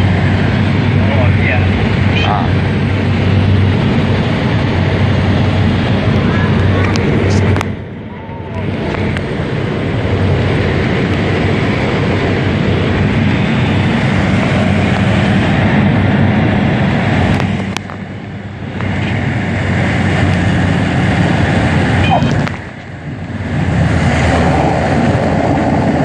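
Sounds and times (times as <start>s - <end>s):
jet engines and rushing air: 0.0s - 26.0s
low hum: 0.0s - 26.0s.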